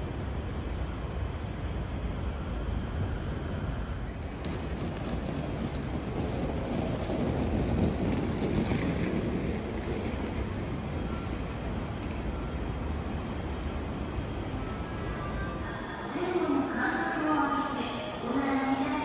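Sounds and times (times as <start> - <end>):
low rumble of city ambience: 0.0 - 19.0.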